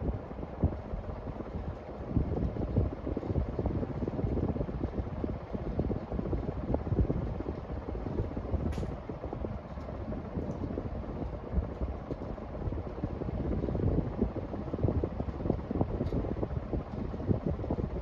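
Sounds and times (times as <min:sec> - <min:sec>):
ceiling fan air buffeting microphone: 0:00.0 - 0:18.0.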